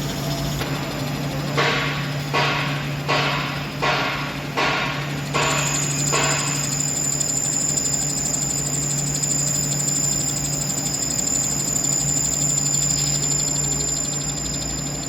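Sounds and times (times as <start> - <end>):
high steady whine: 0.0 - 15.0
lathe hum: 0.0 - 15.0.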